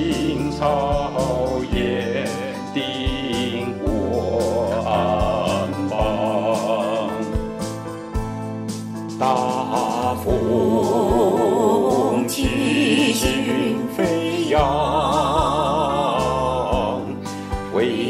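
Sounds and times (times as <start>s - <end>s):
person singing with vibrato: 0.0s - 7.8s, 9.2s - 18.0s
midi accompaniment with steady beat: 0.0s - 18.0s.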